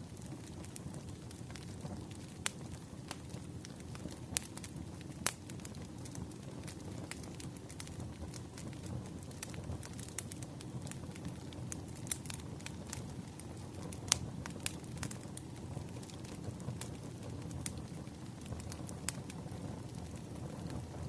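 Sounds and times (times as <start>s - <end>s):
fire rumbling: 0.0s - 21.0s
logs crackling and popping: 0.0s - 21.0s.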